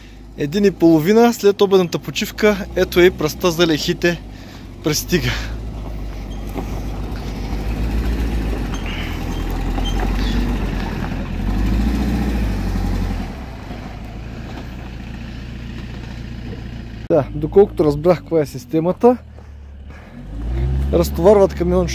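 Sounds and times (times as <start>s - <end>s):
truck engine rumble: 0.0s - 21.9s.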